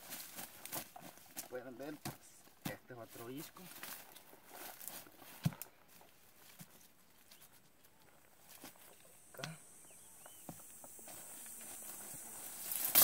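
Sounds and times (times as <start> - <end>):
dry brush and leaves crackling: 0.0 - 13.0.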